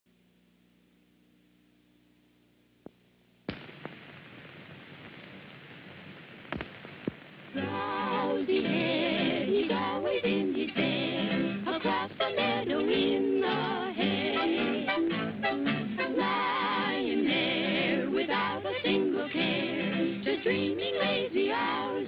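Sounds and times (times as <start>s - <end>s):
faint hum: 0.1s - 22.0s
film hiss with pops and crackles: 0.1s - 22.0s.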